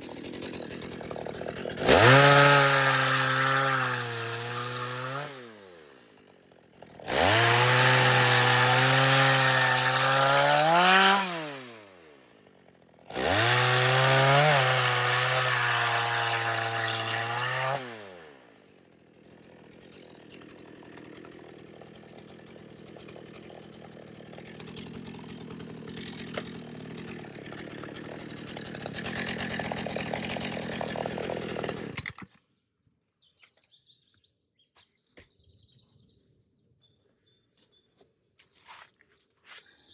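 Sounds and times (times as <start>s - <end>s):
chainsaw engine running: 0.0s - 32.3s.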